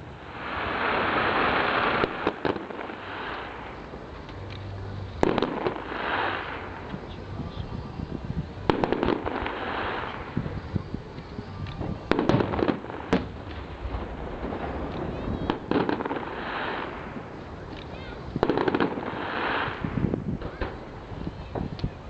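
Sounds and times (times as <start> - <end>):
fireworks bangs: 0.0 - 4.5, 5.2 - 21.8
hissing crackling firework trails: 0.0 - 22.0.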